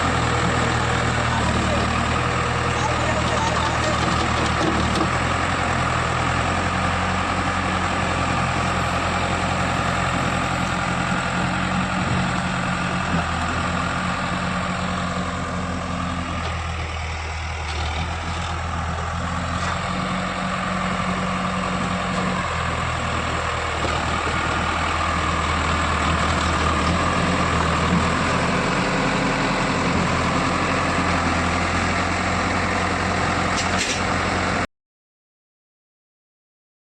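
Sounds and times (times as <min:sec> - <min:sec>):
diesel engine running: 0:00.0 - 0:34.6.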